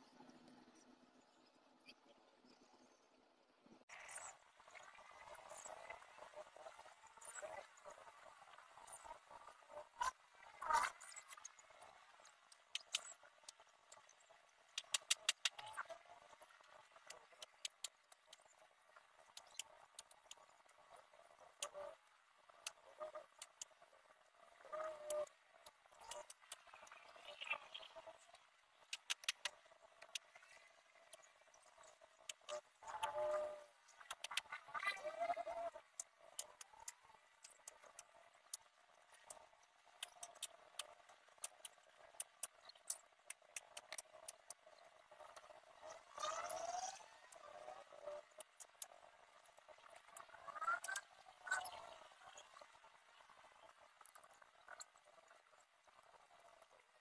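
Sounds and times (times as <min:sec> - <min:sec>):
sharp clicks and ticks: 0:08.8 - 0:56.9.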